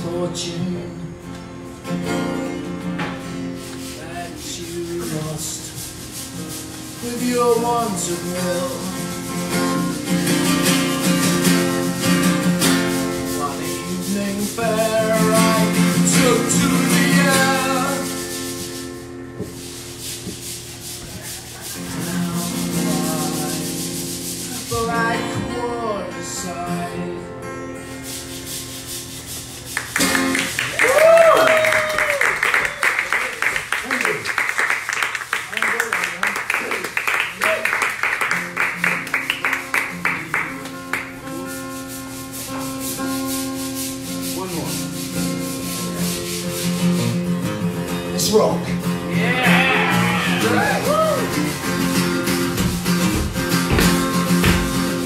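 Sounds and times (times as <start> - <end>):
acoustic guitar strumming: 0.0 - 30.7, 37.8 - 55.0.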